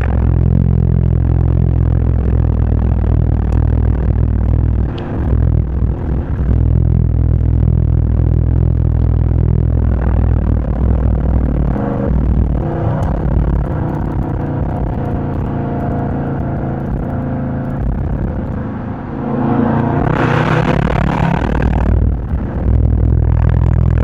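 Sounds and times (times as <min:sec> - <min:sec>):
car engine and exhaust drone: 0:00.0 - 0:24.0.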